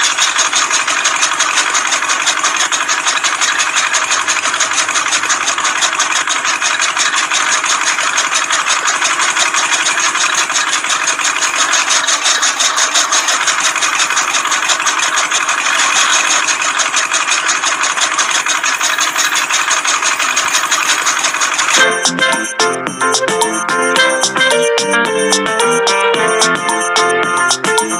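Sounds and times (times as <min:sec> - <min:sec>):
small motor clattering: 0:00.0 - 0:27.9.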